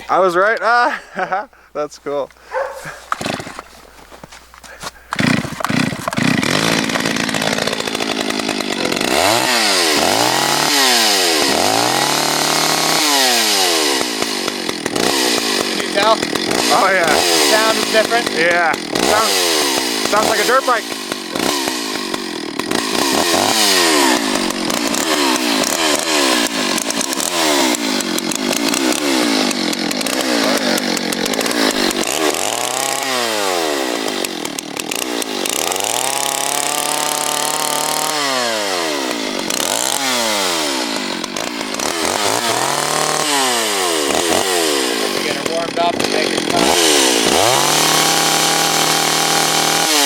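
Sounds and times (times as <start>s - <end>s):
chainsaw revving: 0.0s - 50.0s.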